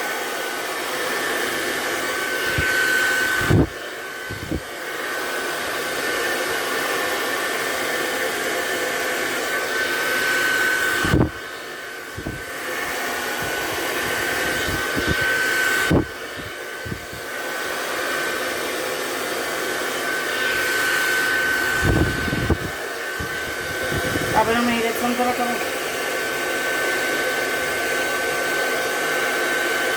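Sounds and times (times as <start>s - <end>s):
hair dryer blowing: 0.0s - 29.9s.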